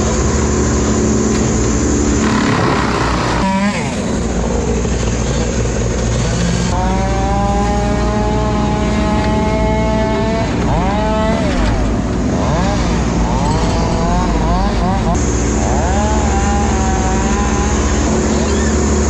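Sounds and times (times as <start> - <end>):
diesel engine running: 0.0 - 19.0
hydraulic whine: 0.0 - 19.0.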